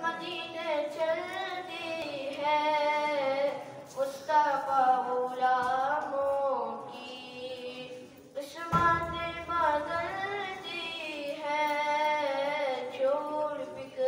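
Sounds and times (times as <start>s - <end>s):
boy singing unaccompanied: 0.0s - 14.0s.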